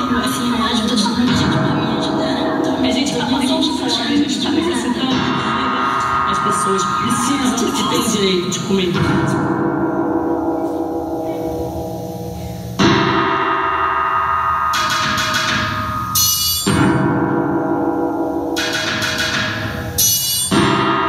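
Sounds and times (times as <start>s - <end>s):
struck bell-like metal tones: 1.3s - 21.0s.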